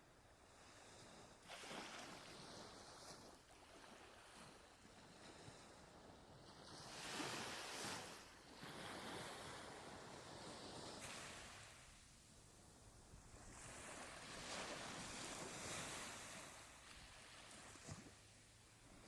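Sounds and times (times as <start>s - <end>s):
waves washing ashore: 0.6s - 19.0s.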